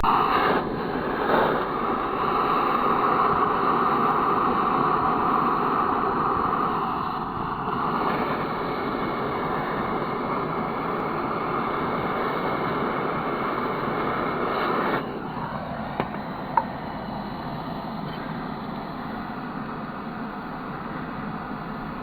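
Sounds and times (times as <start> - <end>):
propane torch hissing: 0.0 - 22.0.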